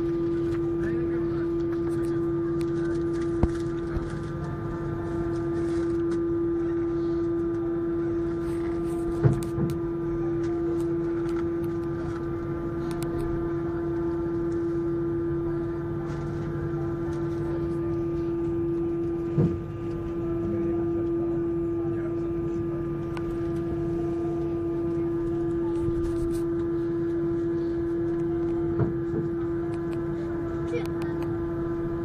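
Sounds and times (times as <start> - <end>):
aircraft cabin engine drone: 0.0 - 32.0.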